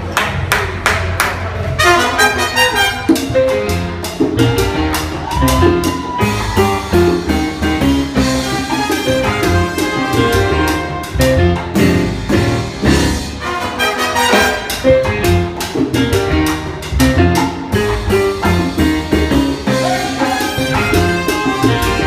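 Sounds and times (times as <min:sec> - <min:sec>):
live salsa band playing: 0:00.0 - 0:22.0.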